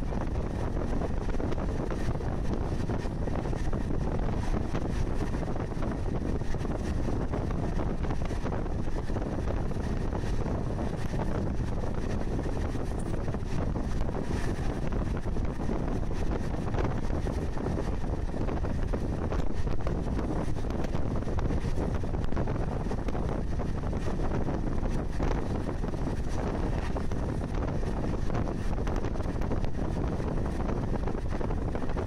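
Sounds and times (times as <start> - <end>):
train rumbling: 0.0 - 32.0
wind buffeting microphone: 0.0 - 32.0.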